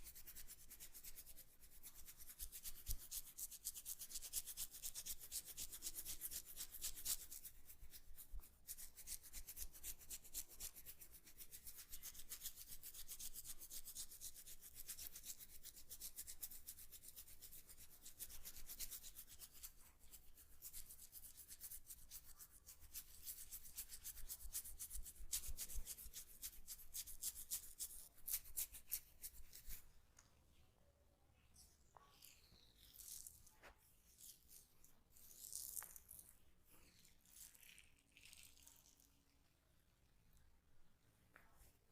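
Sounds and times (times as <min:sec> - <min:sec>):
hands scratching hair and skin: 0:00.0 - 0:29.8, 0:32.2 - 0:36.3.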